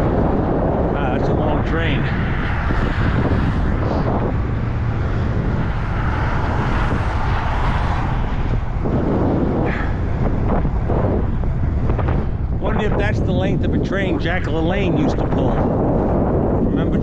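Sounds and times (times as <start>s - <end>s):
freight train rumbling: 0.0s - 16.2s
wind rushing over microphone: 0.0s - 17.0s.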